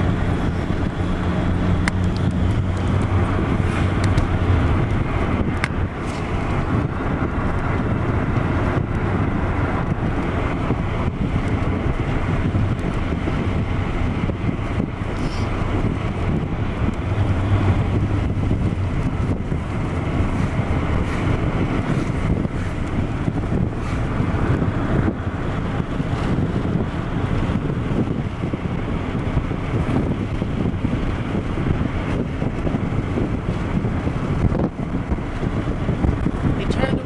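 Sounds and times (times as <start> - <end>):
low hum: 0.0 - 31.5
car road noise: 0.0 - 37.0.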